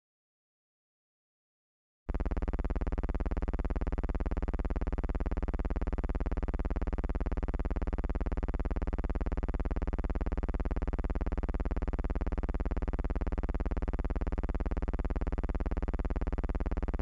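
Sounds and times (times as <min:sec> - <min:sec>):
low pulsing buzzing hum: 0:02.1 - 0:17.0.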